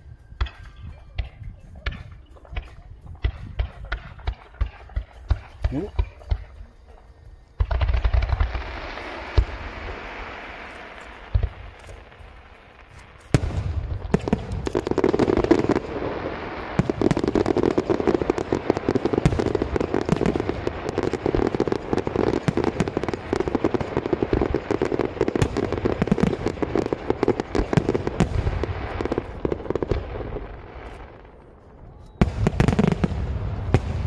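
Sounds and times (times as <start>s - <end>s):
ground fountain fireworks firing: 0.0s - 34.0s.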